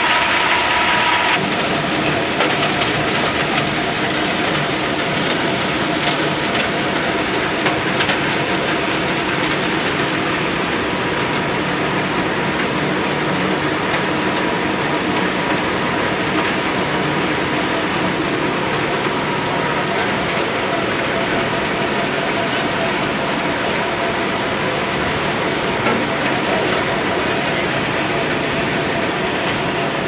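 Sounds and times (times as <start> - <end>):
plant machinery running: 0.0 - 30.0.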